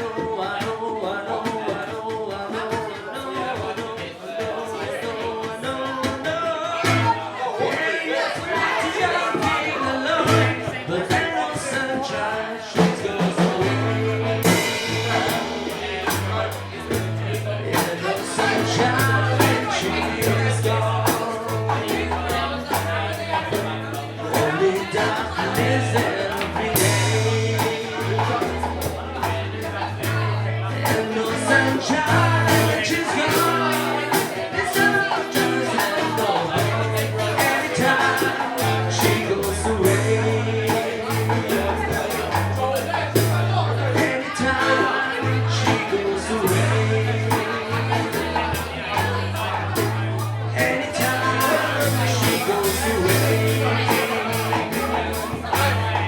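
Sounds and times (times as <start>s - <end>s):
music with steady beat: 0.0s - 56.0s
person singing: 0.0s - 56.0s.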